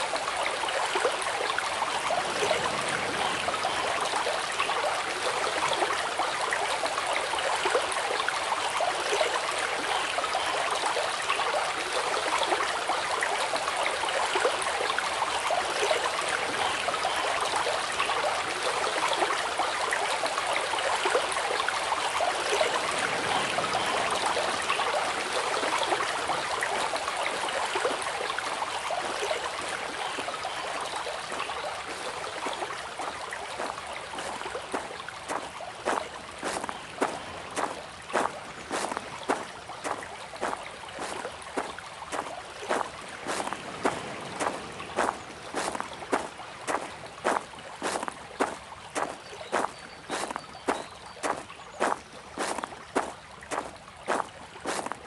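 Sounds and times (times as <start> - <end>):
stream water splashing: 0.0 - 55.0.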